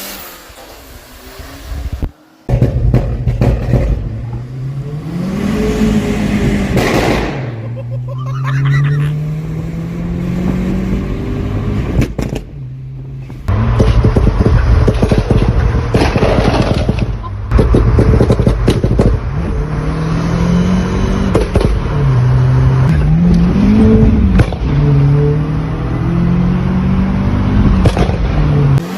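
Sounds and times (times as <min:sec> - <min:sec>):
turbocharged engine revving: 0:00.0 - 0:28.9.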